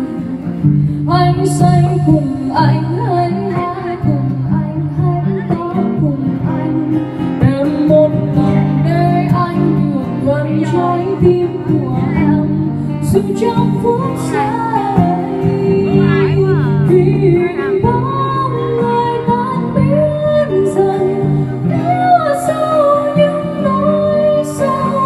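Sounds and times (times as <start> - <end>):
strummed acoustic guitar: 0.0 - 25.0
woman singing into microphone: 0.0 - 25.0.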